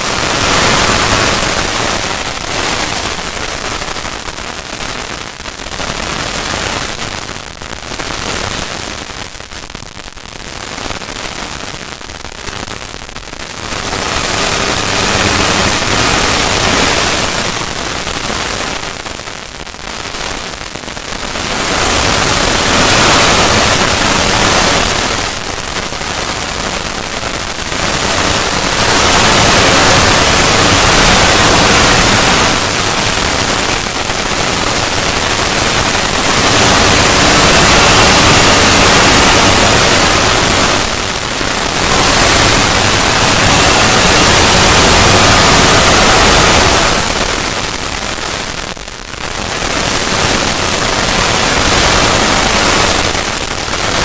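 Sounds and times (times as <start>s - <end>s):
harsh static-like noise: 0.0s - 54.0s.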